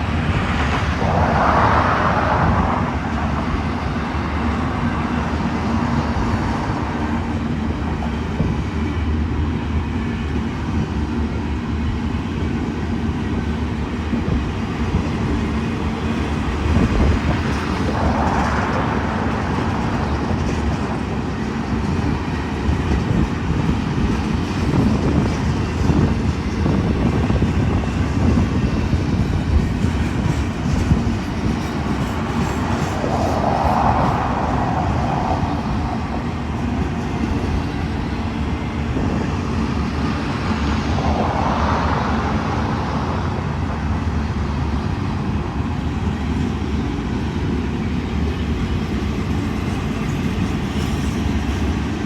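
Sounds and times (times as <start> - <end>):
freight train wheels rumbling on rail: 0.0 - 52.0.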